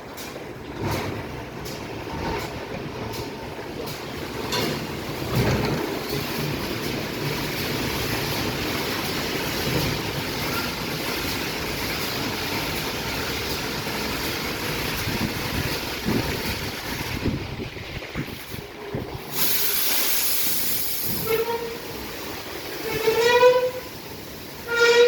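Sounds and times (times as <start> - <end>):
car wash machine noise: 0.0 - 25.0
spraying water: 3.1 - 25.0.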